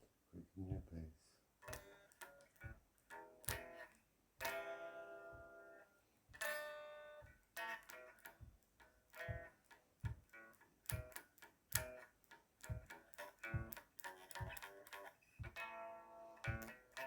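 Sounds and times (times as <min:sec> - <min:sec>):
guitar strumming: 0:01.6 - 0:17.0.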